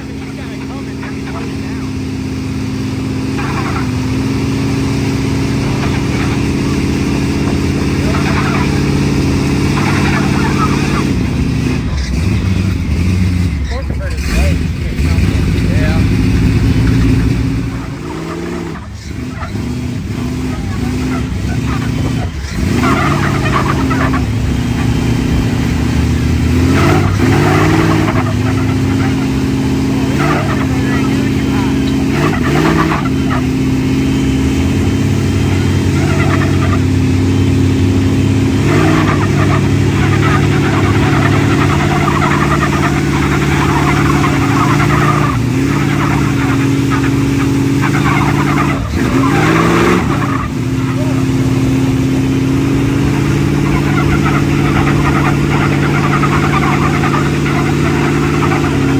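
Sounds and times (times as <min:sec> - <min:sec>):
truck engine running loud: 0:00.0 - 0:58.9.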